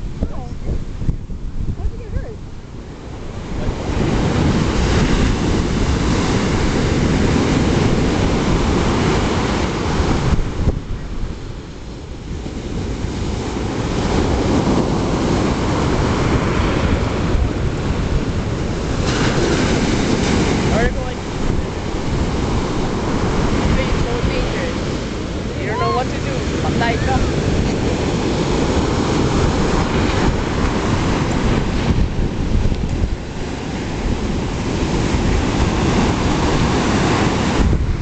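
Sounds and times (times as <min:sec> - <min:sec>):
ocean surf breaking on beach: 0:00.0 - 0:38.0.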